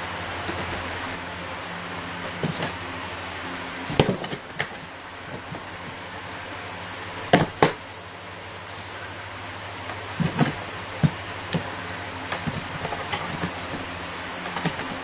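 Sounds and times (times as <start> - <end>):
background hiss: 0.0 - 15.0
low hum: 0.0 - 15.0.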